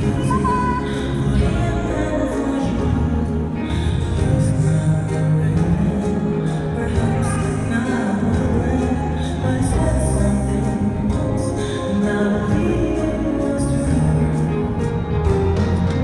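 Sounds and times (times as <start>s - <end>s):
dance music with singing: 0.0s - 16.0s.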